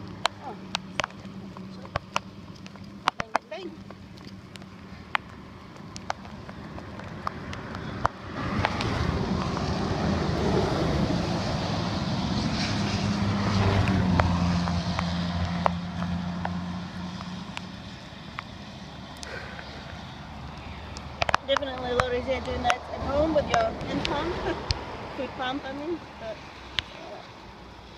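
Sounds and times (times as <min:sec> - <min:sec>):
vehicle engine and tyre noise: 0:00.0 - 0:27.9.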